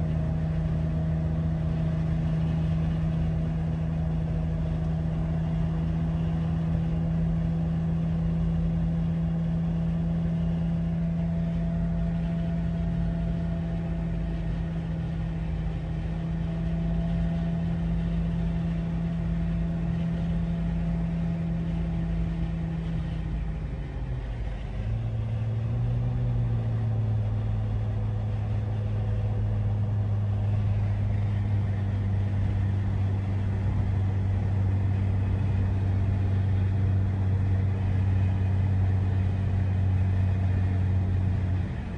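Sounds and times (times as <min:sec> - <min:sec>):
car engine drone: 0:00.0 - 0:41.9
road noise: 0:00.0 - 0:41.9.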